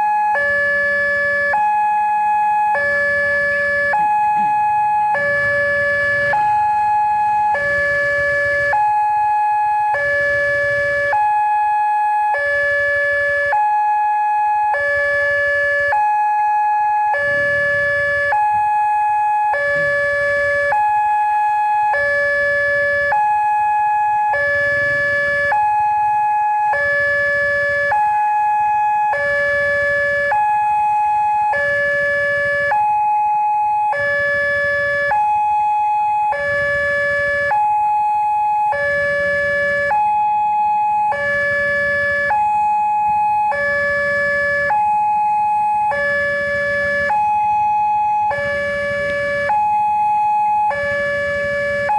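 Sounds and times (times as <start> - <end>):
two-tone crossing alarm: 0.0 - 51.9.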